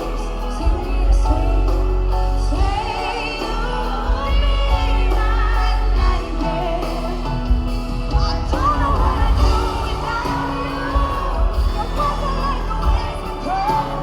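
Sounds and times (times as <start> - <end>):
band playing pop ballad: 0.0 - 14.0
heavy steady bass: 0.0 - 14.0
woman singing with vibrato: 0.0 - 14.0.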